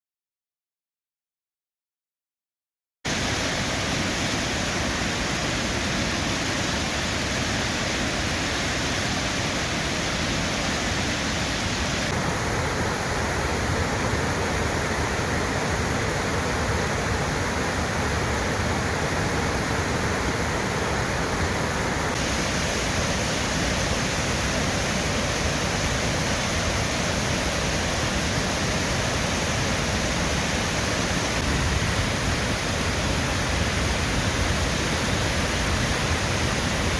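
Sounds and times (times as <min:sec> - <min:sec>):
waterfall rushing: 0:03.1 - 0:36.9.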